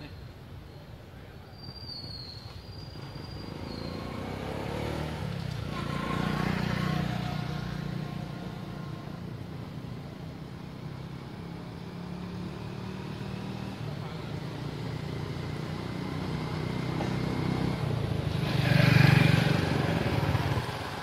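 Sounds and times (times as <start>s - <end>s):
vehicle passing by: 3.0s - 9.4s, 10.3s - 21.0s.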